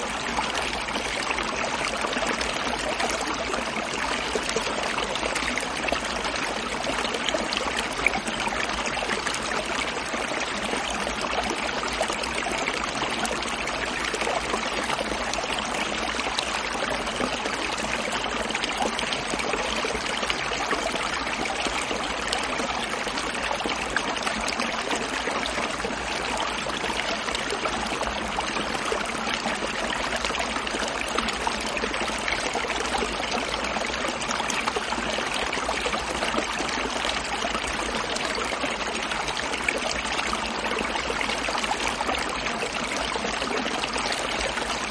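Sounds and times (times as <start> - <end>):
stream gurgling and trickling: 0.0 - 44.9.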